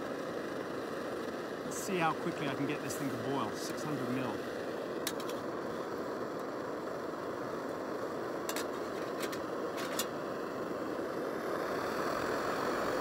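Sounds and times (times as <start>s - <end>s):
camping stove burner roaring: 0.0s - 13.0s.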